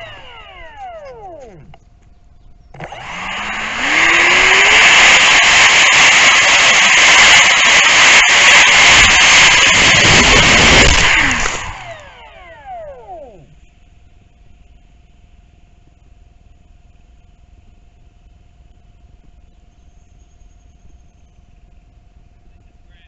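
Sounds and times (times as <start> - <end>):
electric ducted fan whine: 0.0 - 23.0.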